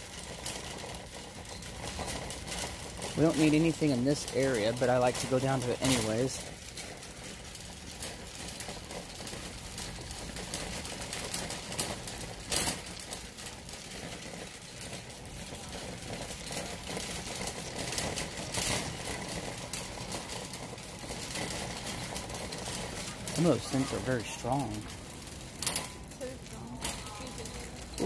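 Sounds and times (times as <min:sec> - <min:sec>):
shopping cart rattling on concrete: 0:00.0 - 0:28.0.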